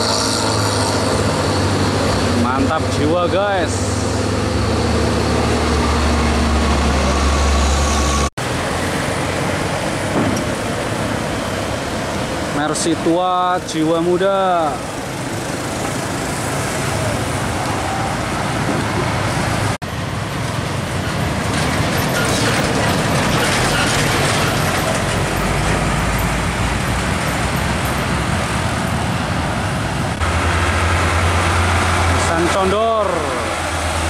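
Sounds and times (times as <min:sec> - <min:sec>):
road and tyre noise: 0:00.0 - 0:34.0
trucks engine rumble: 0:00.0 - 0:34.0.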